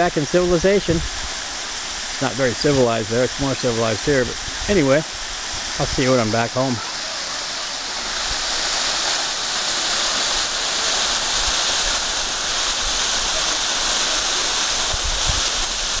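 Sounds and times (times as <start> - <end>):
waterfall splashing into pool: 0.0 - 16.0.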